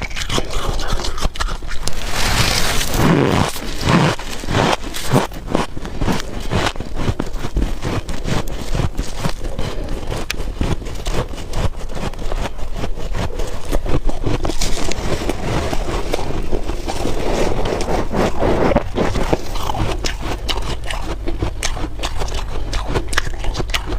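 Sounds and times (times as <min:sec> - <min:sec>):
freezer frost crunching: 0:00.0 - 0:23.9.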